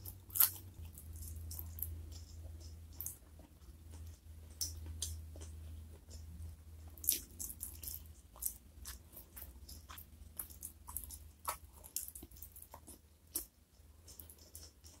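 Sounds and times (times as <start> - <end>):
faint low hum: 0.0 - 15.0
wet chewing with crunchy crackles: 0.0 - 15.0.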